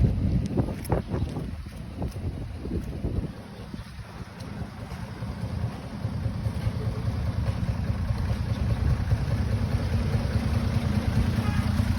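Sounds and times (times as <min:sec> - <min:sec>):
vehicle engine rumbling: 0:00.0 - 0:11.9.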